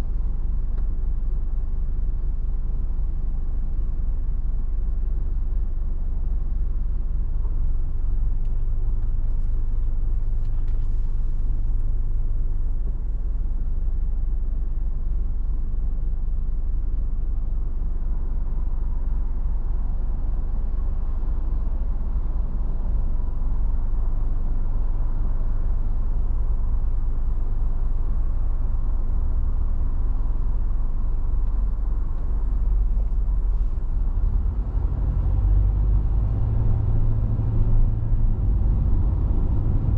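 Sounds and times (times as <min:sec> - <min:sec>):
car driving road rumble: 0:00.0 - 0:39.9.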